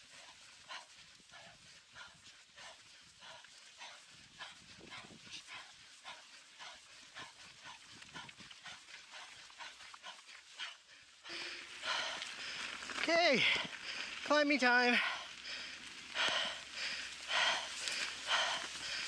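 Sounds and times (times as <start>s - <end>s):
person panting heavily: 0.0s - 14.3s, 14.9s - 19.0s.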